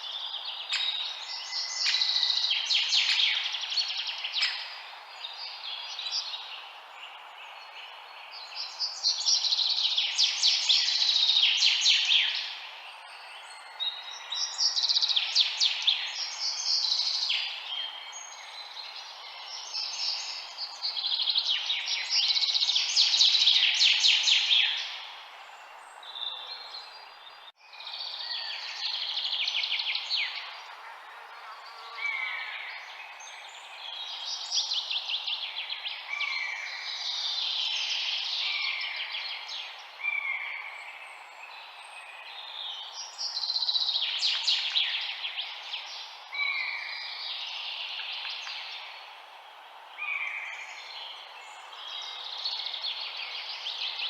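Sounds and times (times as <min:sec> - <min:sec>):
songbirds trilling: 0:00.0 - 0:49.2.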